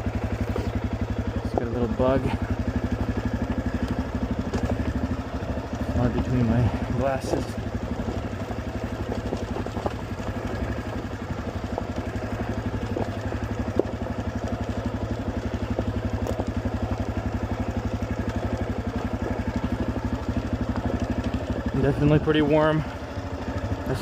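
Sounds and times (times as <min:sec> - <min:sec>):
dirt bike engine at low revs: 0:00.0 - 0:24.0.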